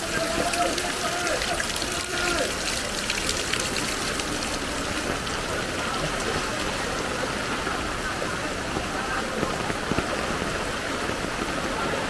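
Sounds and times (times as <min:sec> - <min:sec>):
floodwater running: 0:00.0 - 0:12.0
heavy rain on street: 0:00.0 - 0:12.0.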